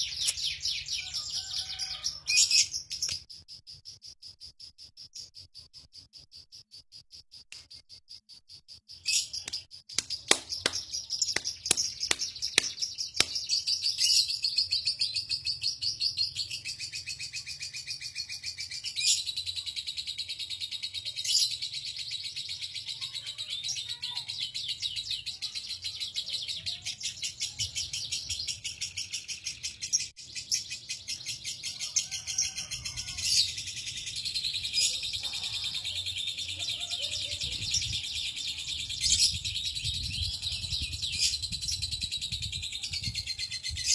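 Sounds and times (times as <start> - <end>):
bird rapid high-pitched chatter: 0.0 - 43.9.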